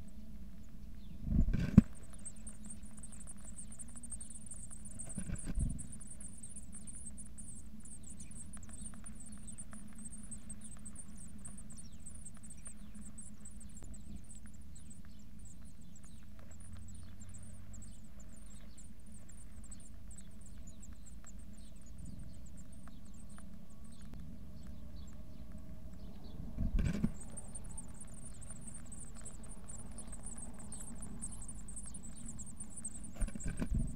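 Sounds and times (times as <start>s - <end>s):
steady low hum: 0.0s - 33.9s
nestlings begging calls: 1.8s - 33.9s.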